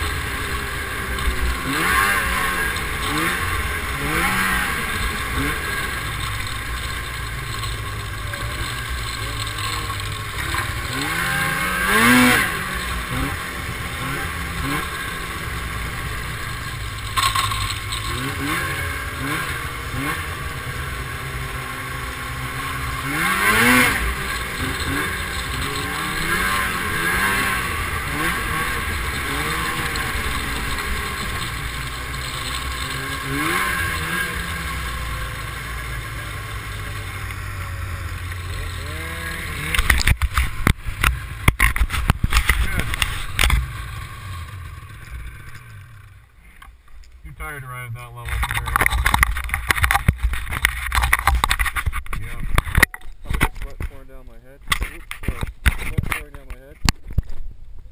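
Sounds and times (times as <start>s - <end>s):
snowmobile engine revving: 0.0s - 46.4s, 47.2s - 56.7s.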